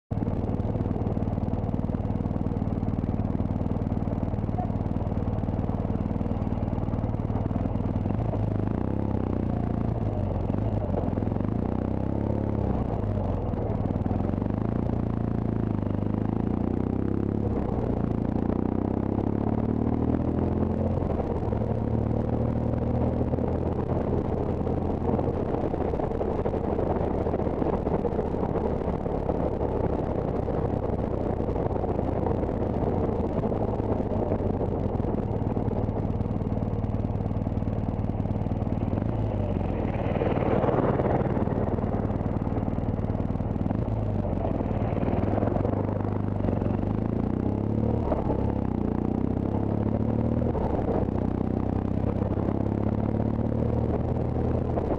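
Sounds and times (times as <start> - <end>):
motorcycle engine running: 0.1 - 54.9.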